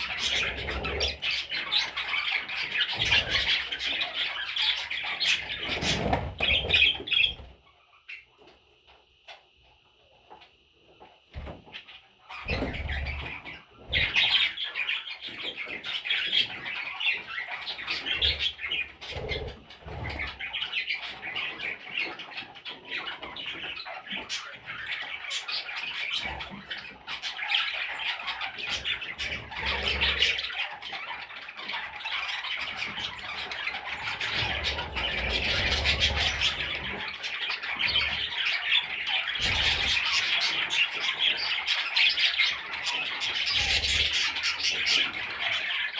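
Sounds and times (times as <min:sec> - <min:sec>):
bird chicks squawking and chirping: 0:00.0 - 0:45.9.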